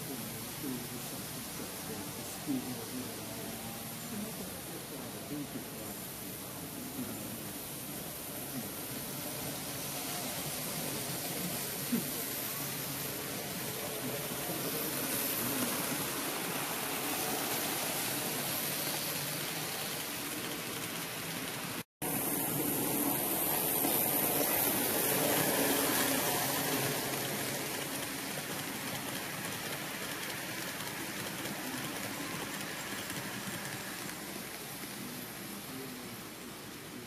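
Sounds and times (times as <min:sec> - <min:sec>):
model train wheels rumbling on rail: 0:00.0 - 0:37.0.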